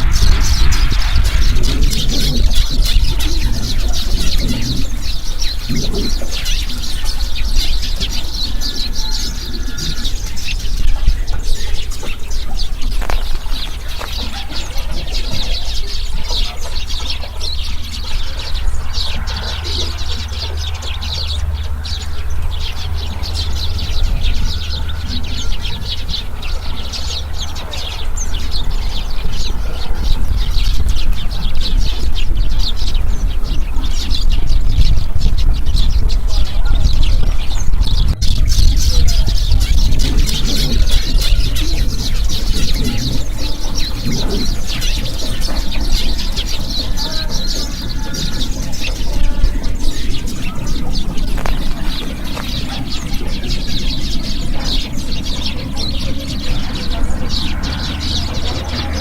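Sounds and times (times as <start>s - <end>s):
low rumble: 0.0s - 47.0s, 47.7s - 59.0s
small birds chirping: 0.0s - 59.0s.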